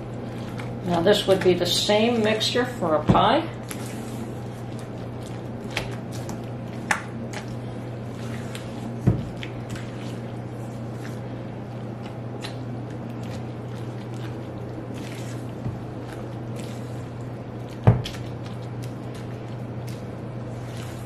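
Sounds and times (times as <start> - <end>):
spoon stirring wet filling: 0.0 - 21.0.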